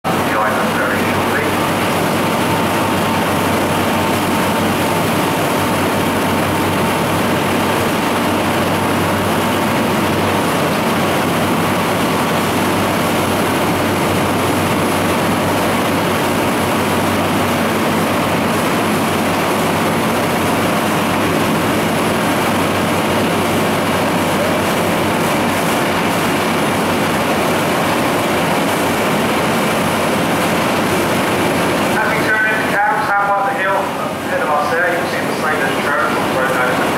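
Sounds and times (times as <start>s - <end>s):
boat engine running: 0.0s - 36.9s
water rushing along hull: 0.1s - 36.9s.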